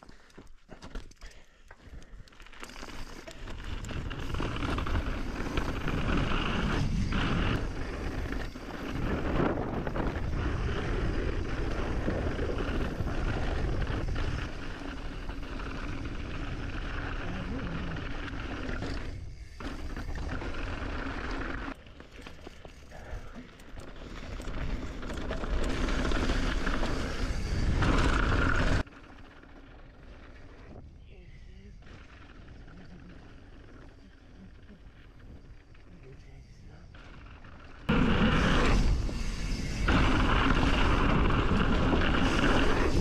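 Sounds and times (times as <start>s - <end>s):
mountain bike tyre noise: 0.0s - 43.0s.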